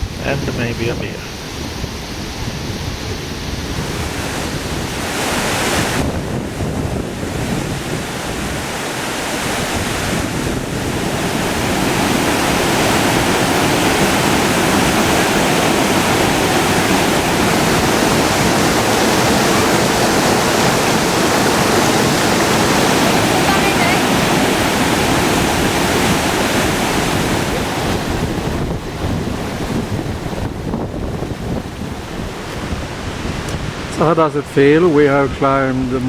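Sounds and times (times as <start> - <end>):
waterfall rushing: 0.0 - 35.6.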